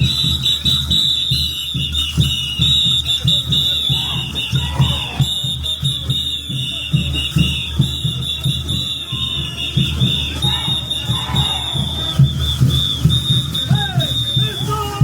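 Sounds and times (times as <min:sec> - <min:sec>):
shrill whistles blown: 0:00.0 - 0:15.0
bass drum beating: 0:02.2 - 0:15.0.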